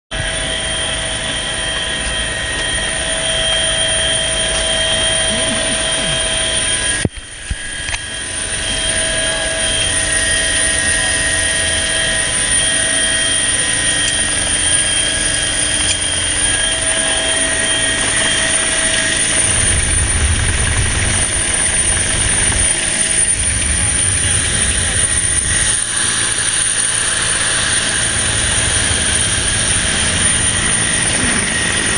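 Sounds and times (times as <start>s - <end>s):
helicopter engine and rotor: 0.1s - 31.9s.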